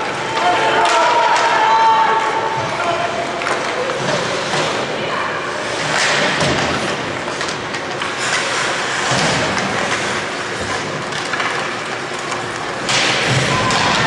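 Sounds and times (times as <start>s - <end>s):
hockey sticks clacking: 0.0s - 14.0s
skate blades scraping ice: 2.4s - 14.0s.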